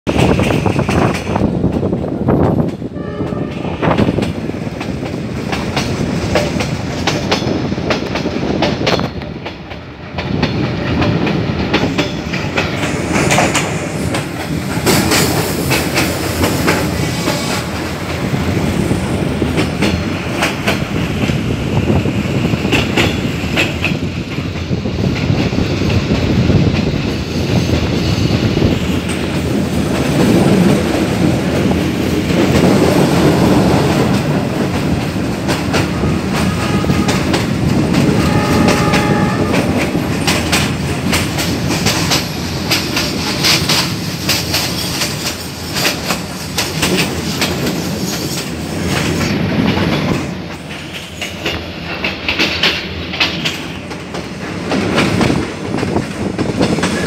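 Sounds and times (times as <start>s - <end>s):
train carriage rumble: 0.0s - 57.0s
wheels clicking over rail joints: 0.1s - 57.0s.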